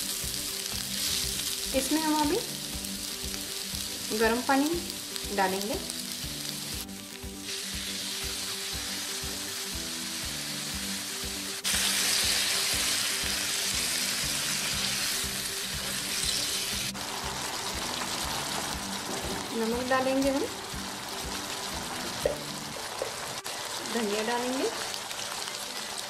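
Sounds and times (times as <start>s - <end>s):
background music with steady beat: 0.0s - 26.0s
eggplant sizzling in a hot pan: 0.0s - 26.0s.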